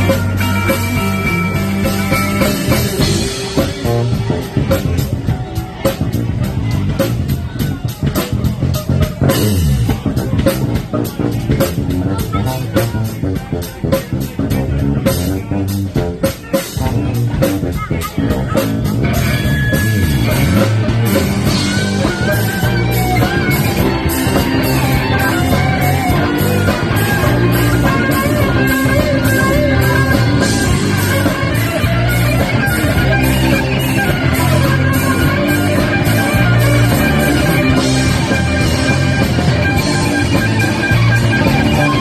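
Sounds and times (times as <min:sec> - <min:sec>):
bass guitar: 0:00.0 - 0:42.0
drum kit beat: 0:00.0 - 0:42.0
electric guitar lead line: 0:00.0 - 0:42.0.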